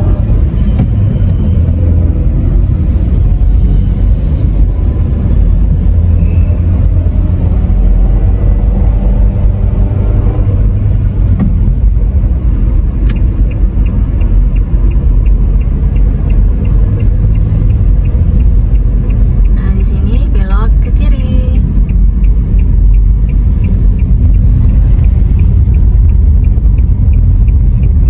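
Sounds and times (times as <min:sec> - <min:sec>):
car road and engine noise: 0:00.0 - 0:28.0
turn signal ticking: 0:00.0 - 0:28.0.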